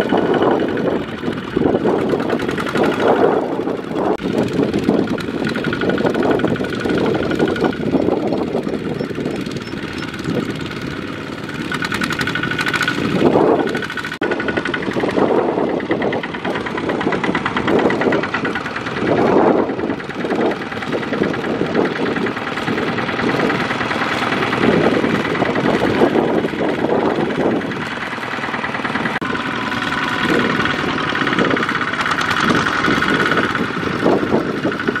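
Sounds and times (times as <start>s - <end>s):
diesel engines chugging: 0.0s - 35.0s.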